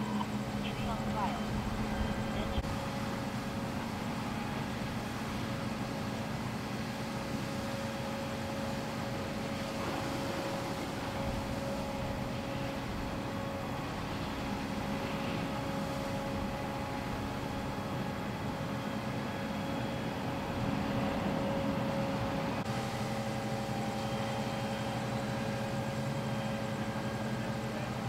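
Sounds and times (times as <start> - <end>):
fire engine pump drone: 0.0 - 28.0.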